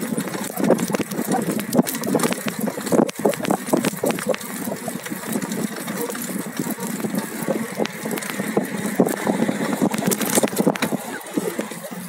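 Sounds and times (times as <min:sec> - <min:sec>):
rattles and knocks: 0:00.0 - 0:11.9
wheels rumbling on pavement: 0:00.0 - 0:12.0.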